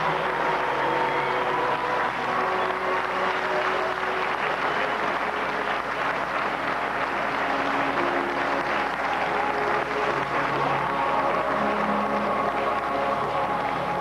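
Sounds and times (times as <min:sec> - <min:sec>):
stadium crowd cheering and applauding: 0:00.0 - 0:14.0.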